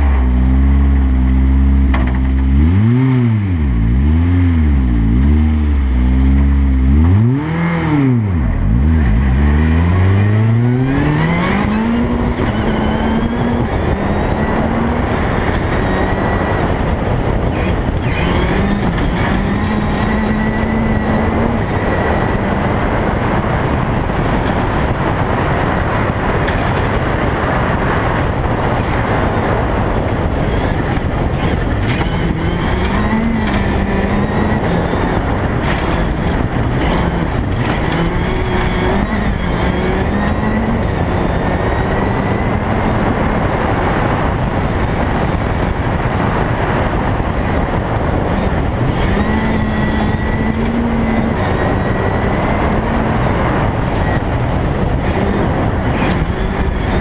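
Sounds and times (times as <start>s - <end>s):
rally car engine revving: 0.0s - 57.0s
rushing wind and gravel: 0.0s - 57.0s.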